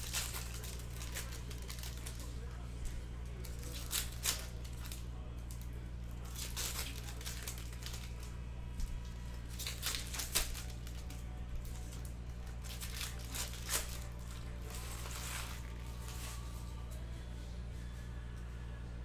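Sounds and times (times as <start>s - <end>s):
foil wrappers crinkling and tearing: 0.0s - 17.0s
steady low hum: 0.0s - 19.0s.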